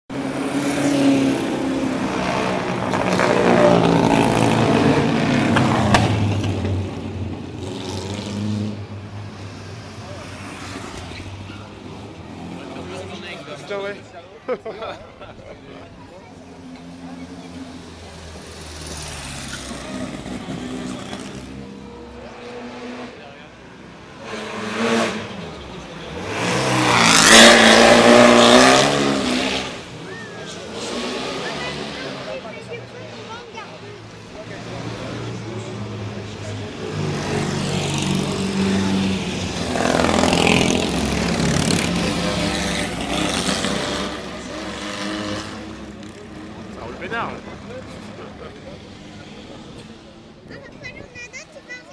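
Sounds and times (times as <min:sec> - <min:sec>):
racing car engines revving: 0:00.1 - 0:14.2, 0:14.8 - 0:50.9.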